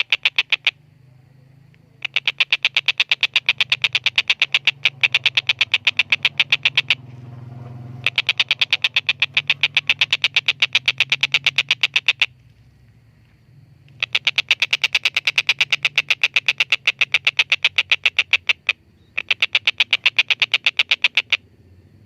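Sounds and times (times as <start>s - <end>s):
kingfisher harsh kek calls: 2.0s - 12.4s, 14.0s - 21.4s.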